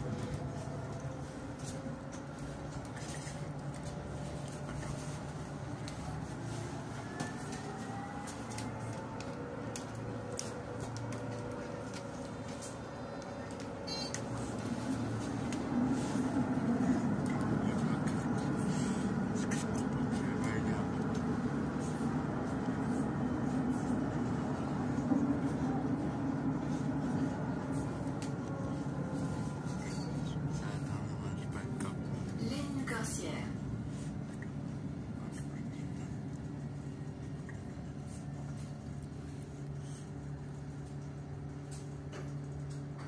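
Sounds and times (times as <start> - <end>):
tram wheels rumbling on rails: 0.0 - 37.3
low electrical hum: 7.6 - 43.0.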